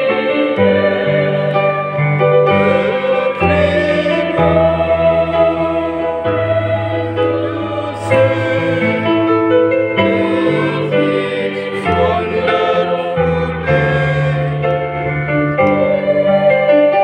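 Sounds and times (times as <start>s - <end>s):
choir singing in parts: 0.0s - 17.0s.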